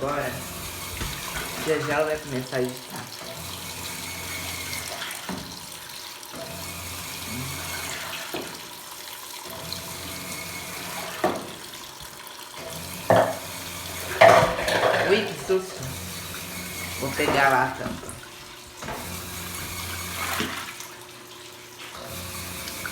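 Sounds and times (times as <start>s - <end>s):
water pouring into washing machine: 0.0s - 22.9s.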